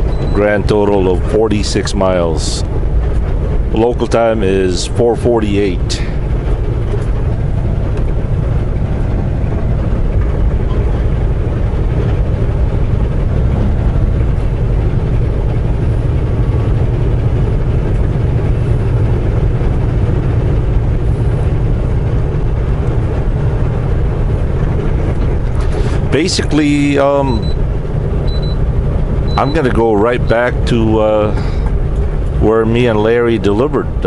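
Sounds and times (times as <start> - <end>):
road noise: 0.0 - 34.0
truck diesel engine drone: 0.0 - 34.0.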